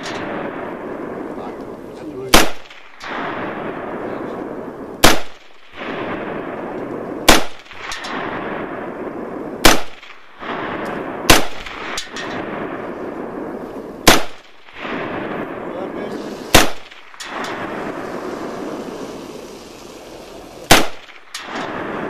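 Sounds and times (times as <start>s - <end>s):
steady background hiss: 0.0s - 22.0s
rifle shots: 2.2s - 22.0s.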